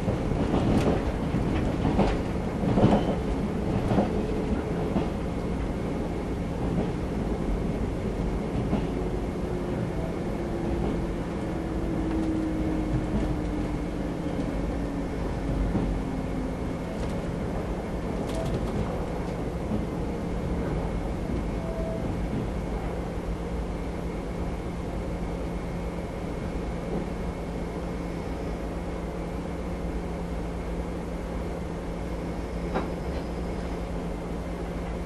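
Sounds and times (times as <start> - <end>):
train running rumble: 0.0 - 35.0.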